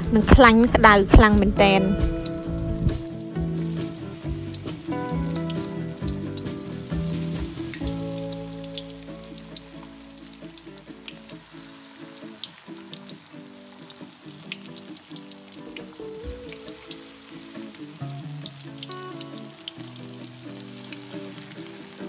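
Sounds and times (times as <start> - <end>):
food sizzling in hot oil: 0.0 - 22.0
soft background music: 0.0 - 22.0.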